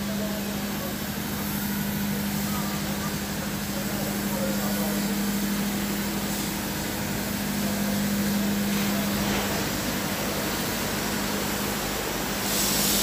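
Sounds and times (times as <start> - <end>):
machine humming with hiss: 0.0 - 13.0.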